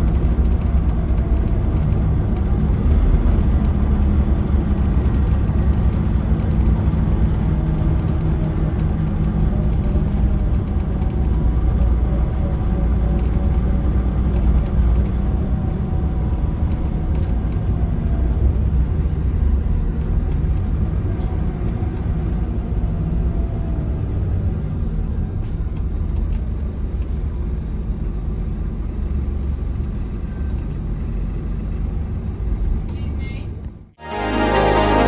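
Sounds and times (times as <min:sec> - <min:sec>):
bus engine and road rumble: 0:00.0 - 0:34.0.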